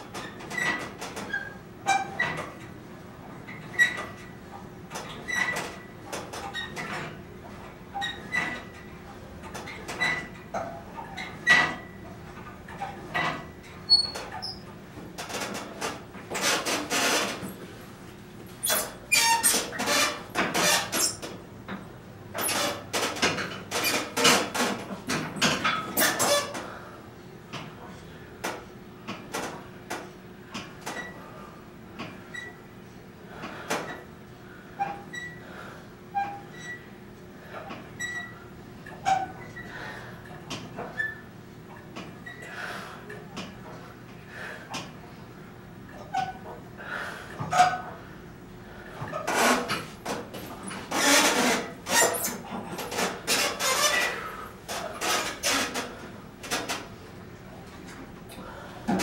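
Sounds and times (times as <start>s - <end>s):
gym machine squeaking and clicking: 0.1s - 17.6s, 18.6s - 26.8s, 27.5s - 45.2s, 45.8s - 46.7s, 47.3s - 48.1s, 48.8s - 59.0s.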